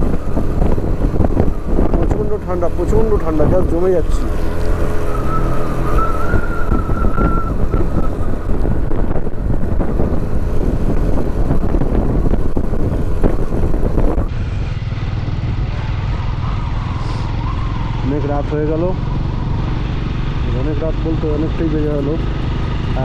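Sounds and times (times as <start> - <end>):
wind on microphone: 0.0 - 21.4
motorcycle engine running: 0.0 - 23.0.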